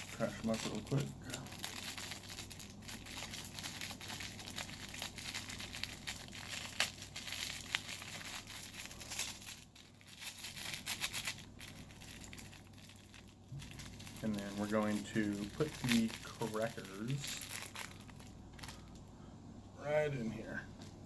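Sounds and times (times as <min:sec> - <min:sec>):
crackers crunching: 0:00.0 - 0:19.1
plastic wrapper crinkling: 0:00.0 - 0:19.1.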